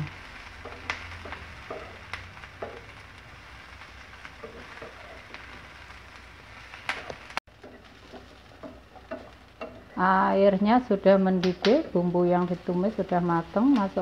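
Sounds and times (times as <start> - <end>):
pot hissing and crackling on stove: 0.0 - 14.0.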